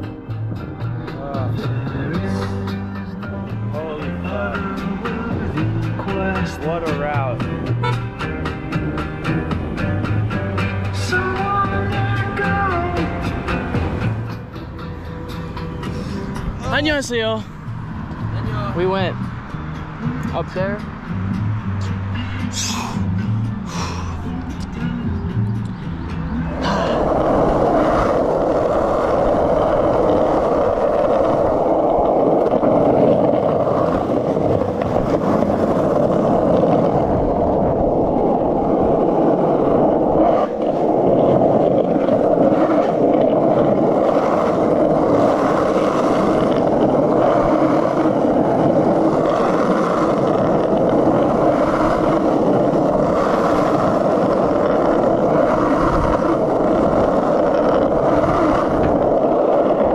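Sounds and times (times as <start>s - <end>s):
skateboard wheels rolling on asphalt: 0.0s - 59.9s.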